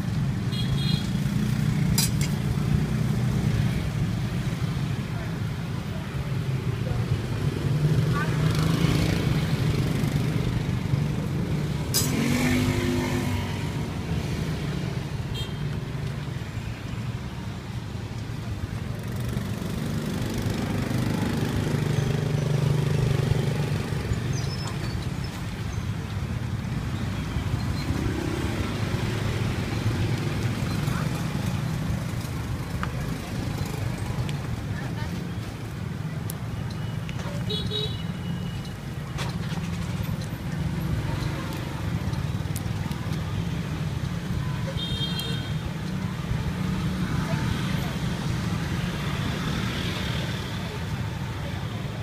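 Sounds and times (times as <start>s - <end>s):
traffic engines rumbling: 0.0s - 52.0s.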